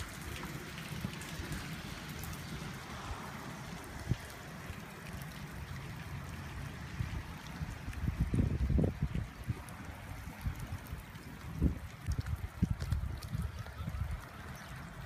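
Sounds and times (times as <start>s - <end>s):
heavy rain splashing on pavement: 0.0s - 15.0s.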